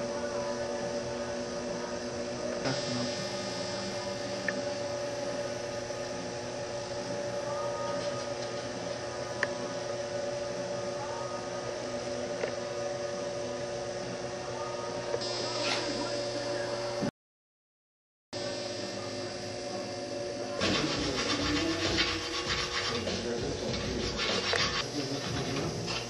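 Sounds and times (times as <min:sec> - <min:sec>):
steady machine hum: 0:00.0 - 0:17.1, 0:18.4 - 0:26.0.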